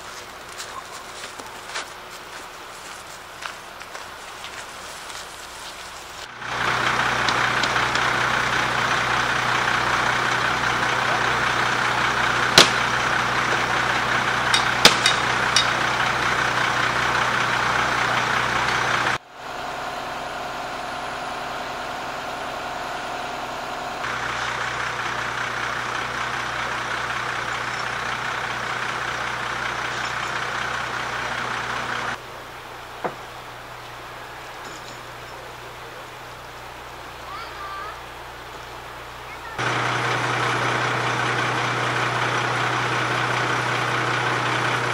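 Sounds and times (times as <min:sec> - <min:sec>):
fire engine idling: 0:00.0 - 0:44.9.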